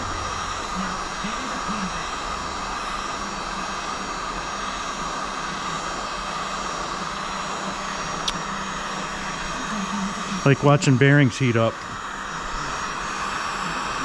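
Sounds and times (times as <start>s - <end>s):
heat gun blowing: 0.0s - 14.0s.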